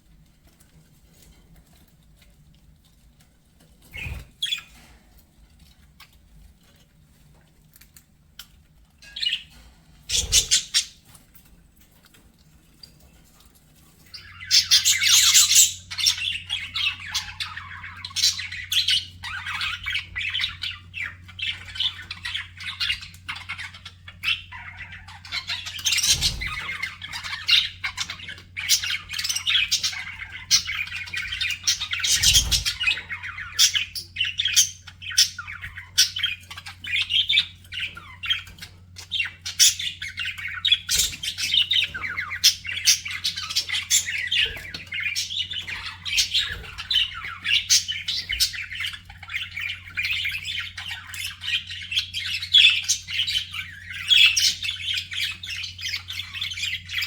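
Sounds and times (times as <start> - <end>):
budgerigars chattering and chirping: 3.8 - 4.9, 8.3 - 11.3, 13.9 - 57.0.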